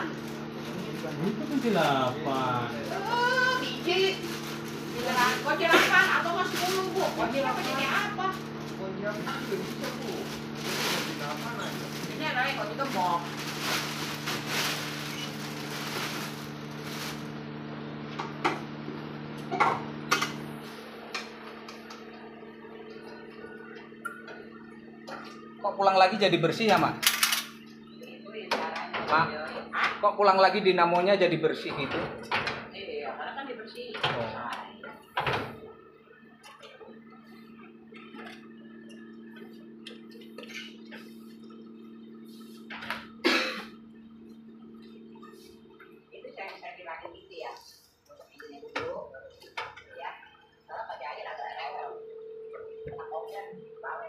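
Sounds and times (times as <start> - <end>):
steady low hum: 0.0 - 48.2, 49.0 - 54.0.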